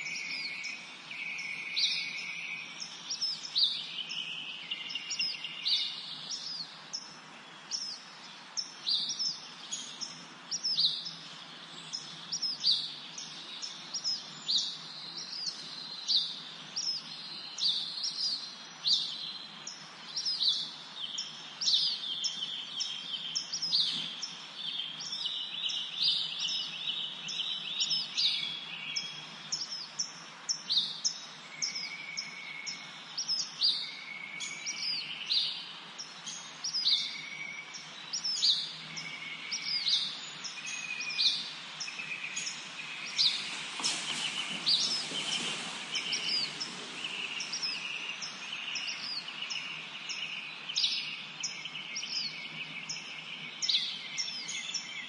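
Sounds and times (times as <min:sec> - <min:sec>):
songbirds chirping: 0:00.0 - 0:55.0
steady background hiss: 0:00.0 - 0:55.0.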